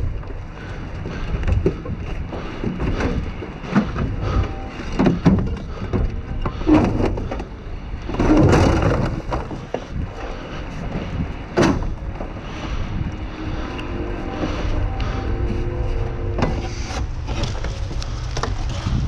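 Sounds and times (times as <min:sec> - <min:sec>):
debris rustling and clattering: 0:00.0 - 0:19.0
wind buffeting microphone: 0:00.0 - 0:19.0.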